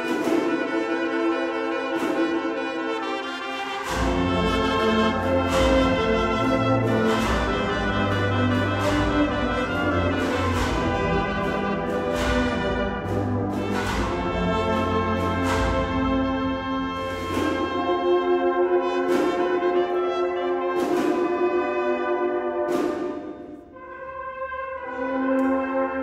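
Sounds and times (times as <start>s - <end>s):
brass band playing a march: 0.0s - 26.0s.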